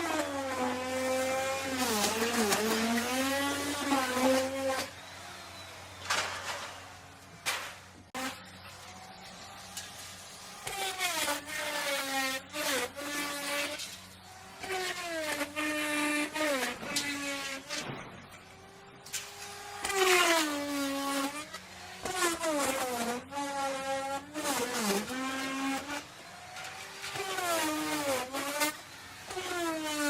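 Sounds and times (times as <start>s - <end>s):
wood router cutting wood: 0.0s - 30.0s.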